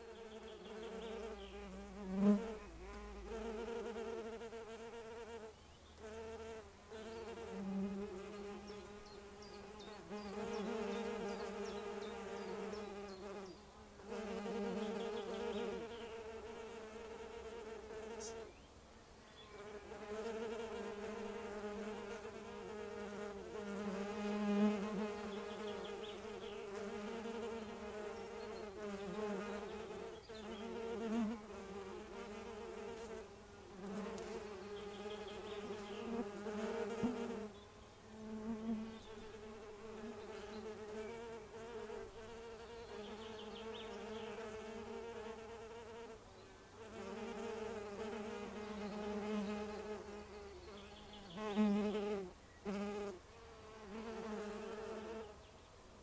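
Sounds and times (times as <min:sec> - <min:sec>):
bumblebee buzzing: 0:00.0 - 0:18.6, 0:19.6 - 0:46.2, 0:46.8 - 0:55.4.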